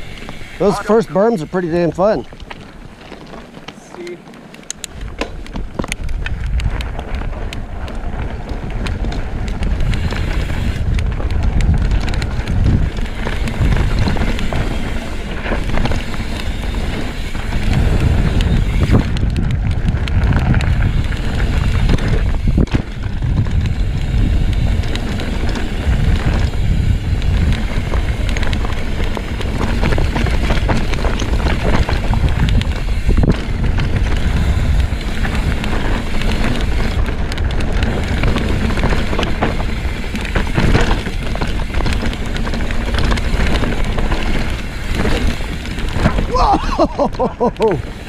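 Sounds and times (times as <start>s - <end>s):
bike frame rattling: 0.0s - 48.0s
bike tyres crunching over gravel: 0.0s - 48.0s
wind rumble on microphone: 0.0s - 48.0s.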